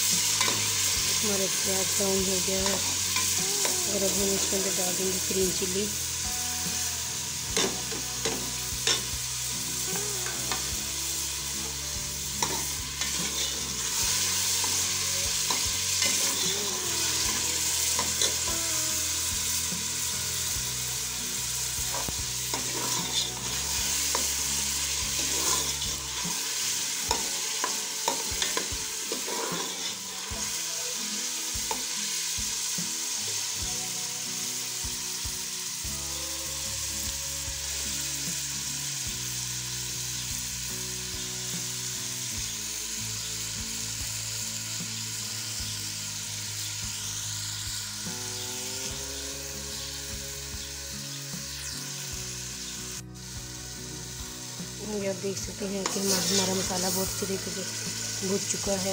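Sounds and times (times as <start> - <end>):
onions sizzling in oil: 0.0 - 58.9.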